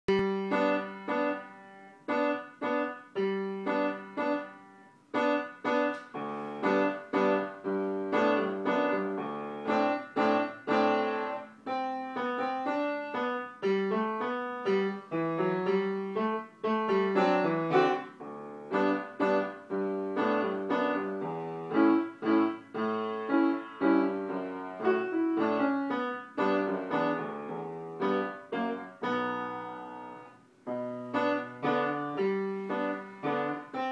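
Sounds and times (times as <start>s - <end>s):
child playing piano: 0.1s - 33.9s.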